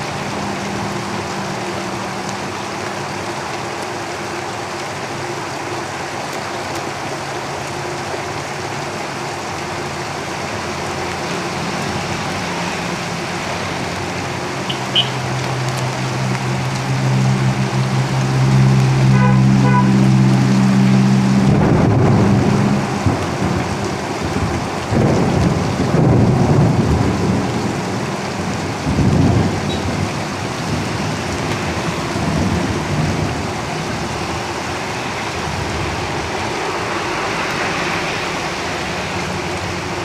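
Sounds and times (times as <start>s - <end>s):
heavy rain on a tin roof: 0.0s - 40.0s
vehicle engine hum: 0.0s - 40.0s.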